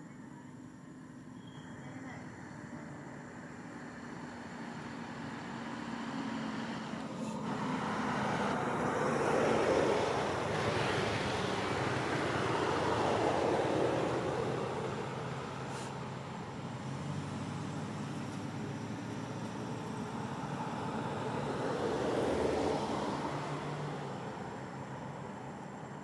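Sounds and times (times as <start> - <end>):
vehicle road noise passing: 0.0 - 26.0.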